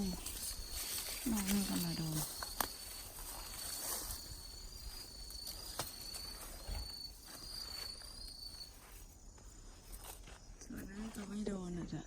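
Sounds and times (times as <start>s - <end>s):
insect trilling: 0.0s - 11.6s.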